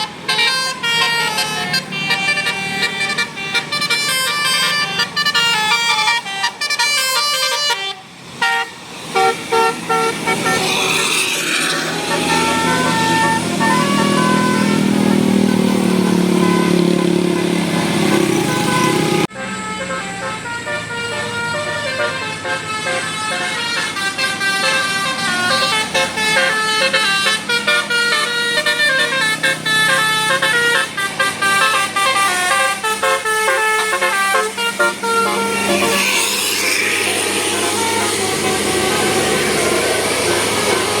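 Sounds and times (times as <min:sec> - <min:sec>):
multi-tone bus horn melody: 0:00.0 - 0:41.0.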